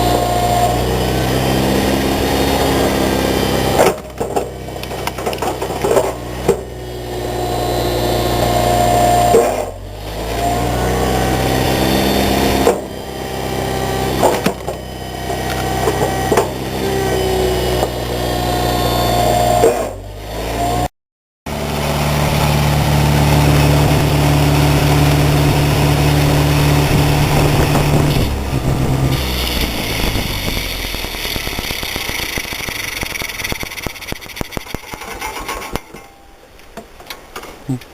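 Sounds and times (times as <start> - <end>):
wood splitter motor running: 0.0 - 20.9, 21.5 - 35.8.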